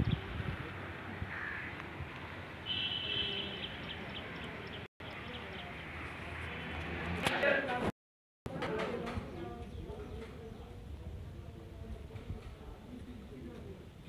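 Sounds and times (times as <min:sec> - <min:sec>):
outdoor background noise: 0:00.0 - 0:07.9, 0:08.5 - 0:14.0.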